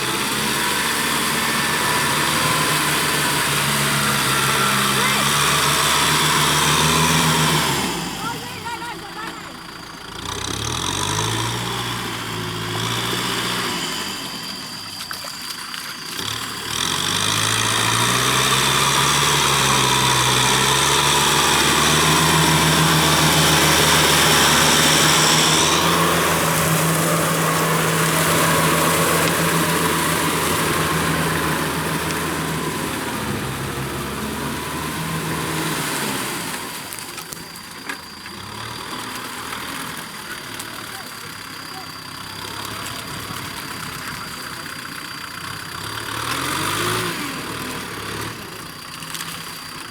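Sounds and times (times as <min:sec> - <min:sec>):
tractor engine revving: 0:00.0 - 0:49.9.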